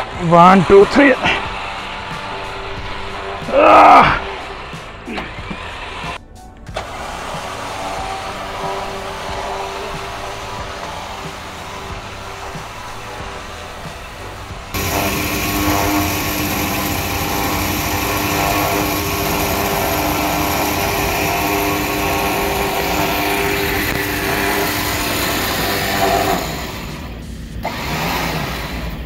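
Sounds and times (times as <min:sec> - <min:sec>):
winch motor whining: 0:00.0 - 0:29.0.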